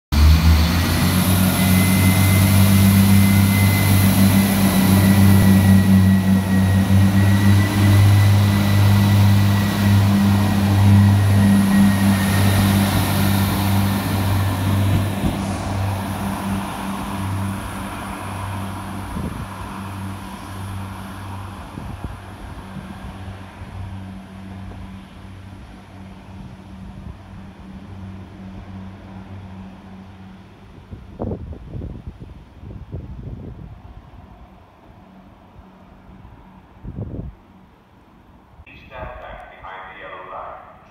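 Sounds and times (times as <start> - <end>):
diesel train engine drone: 0.1 - 40.9.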